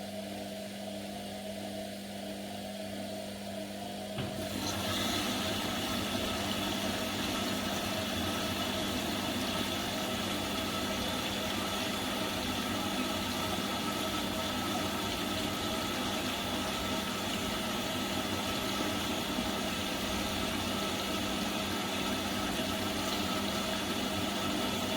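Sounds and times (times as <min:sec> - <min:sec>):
washing machine spinning: 0:02.7 - 0:24.9.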